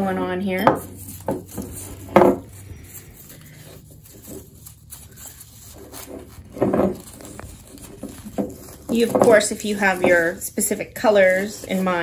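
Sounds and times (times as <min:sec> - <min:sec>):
ribbon rustling: 0:00.6 - 0:12.0.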